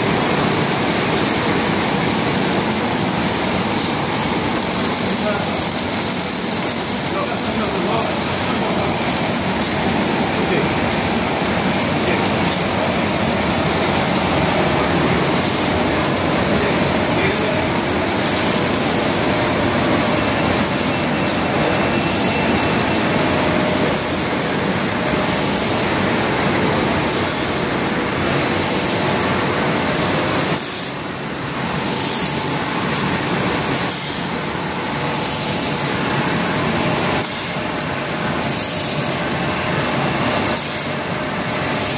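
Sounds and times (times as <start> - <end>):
laminating machine running: 0.0 - 41.9.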